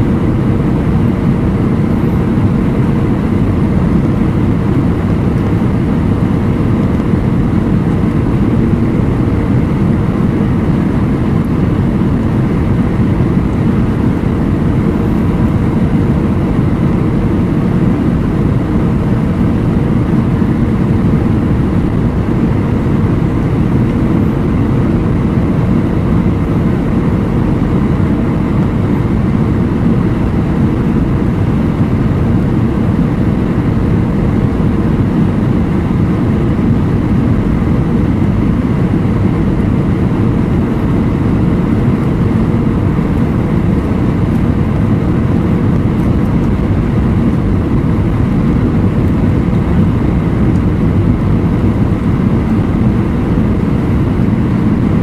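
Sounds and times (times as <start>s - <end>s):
airplane cabin noise: 0.0s - 55.0s
faint steady hum: 0.0s - 55.0s.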